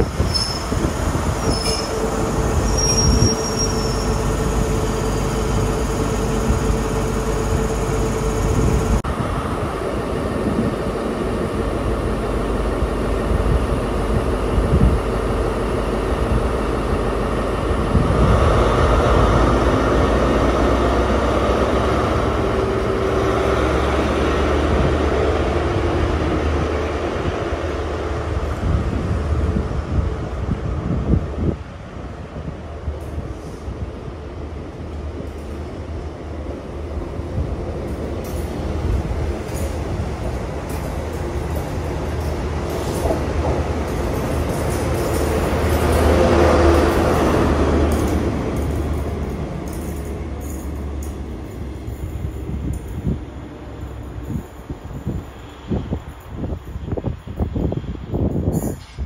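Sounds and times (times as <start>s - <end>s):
train diesel engine running: 0.0s - 59.0s.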